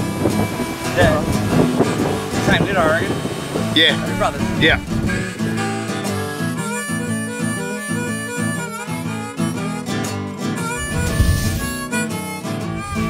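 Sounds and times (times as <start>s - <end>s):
blues harmonica over guitar: 0.0s - 13.0s.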